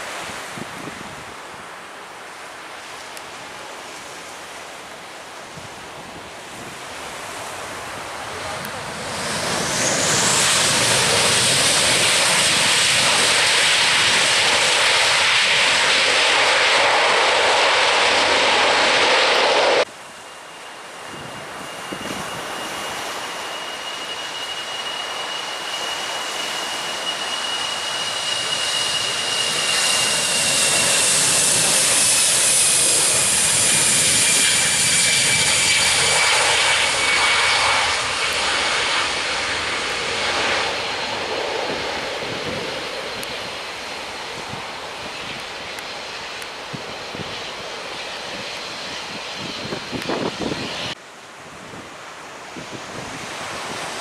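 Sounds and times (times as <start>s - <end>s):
jet airliner engines: 0.0s - 54.0s
jet engine whine falling in pitch: 6.0s - 54.0s.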